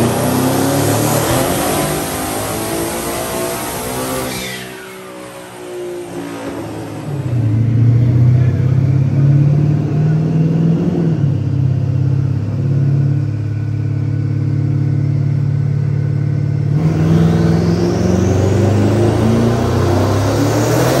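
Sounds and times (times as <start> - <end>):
car engine running on dyno: 0.0 - 21.0.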